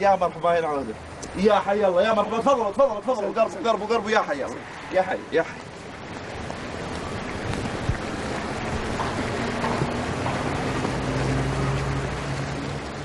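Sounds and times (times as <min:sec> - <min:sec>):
wind buffeting microphone: 0:00.9 - 0:13.0.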